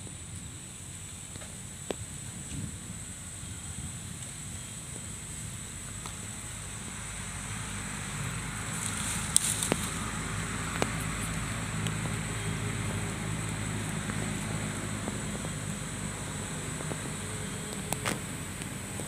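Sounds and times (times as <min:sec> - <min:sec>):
steady low hum: 0:00.0 - 0:19.0
dry leaves crackling: 0:00.1 - 0:19.0.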